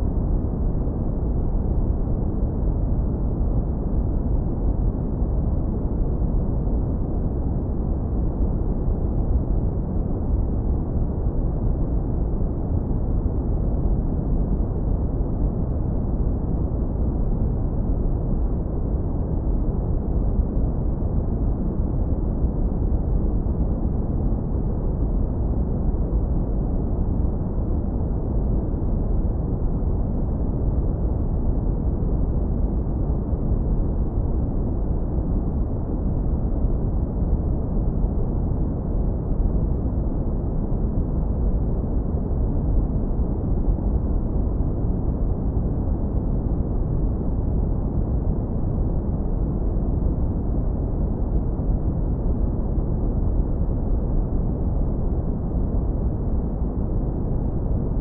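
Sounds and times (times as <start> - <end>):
deep smooth brown noise rumble: 0.0 - 58.0.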